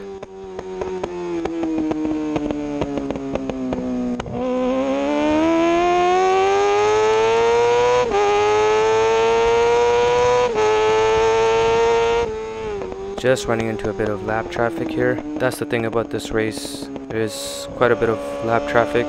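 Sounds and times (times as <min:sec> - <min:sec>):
exhaust popping and crackling: 0:00.0 - 0:19.0
motorcycle engine revving: 0:00.0 - 0:19.0
quick gear upshifts: 0:00.0 - 0:19.0.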